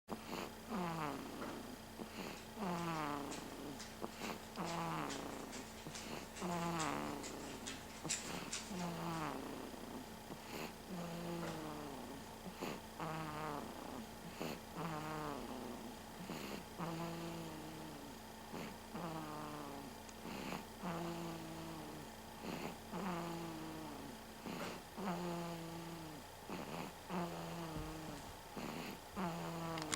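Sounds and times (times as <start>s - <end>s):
baby snoring: 0.1s - 29.9s.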